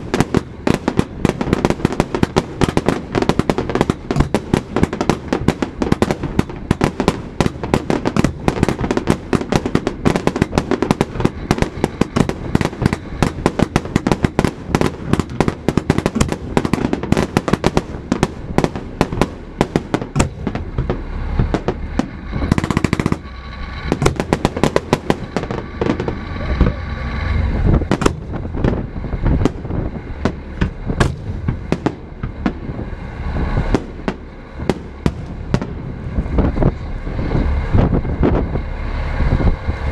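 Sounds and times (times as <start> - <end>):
fireworks cracks and bangs: 0.0 - 38.4
fireworks rushing burst: 0.0 - 39.9.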